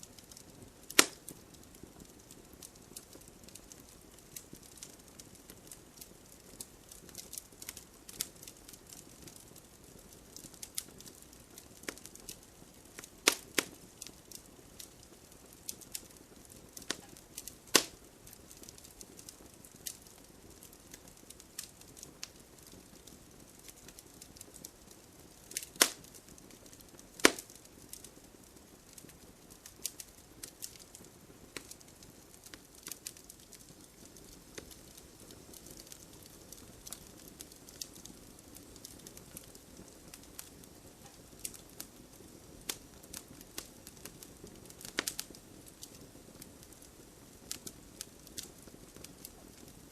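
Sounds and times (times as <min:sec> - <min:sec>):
campfire crackling and popping: 0:00.0 - 0:49.9
faint steady hiss: 0:00.0 - 0:49.9.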